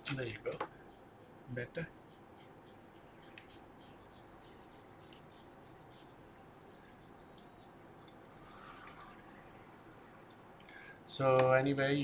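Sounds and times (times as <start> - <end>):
light scratching and rubbing: 0.1 - 10.6.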